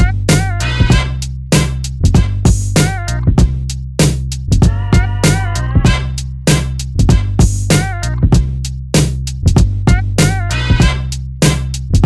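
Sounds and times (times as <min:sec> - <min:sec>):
bass line: 0:00.0 - 0:12.0
drum-machine beat: 0:00.0 - 0:12.0.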